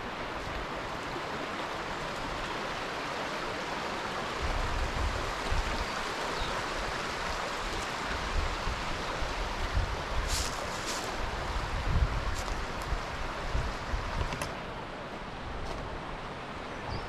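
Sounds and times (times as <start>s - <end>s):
stream babbling over rocks: 0.0s - 15.0s.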